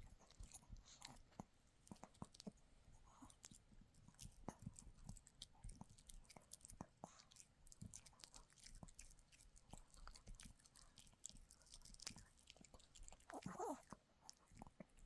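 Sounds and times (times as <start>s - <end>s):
dog chewing: 0.0s - 15.0s.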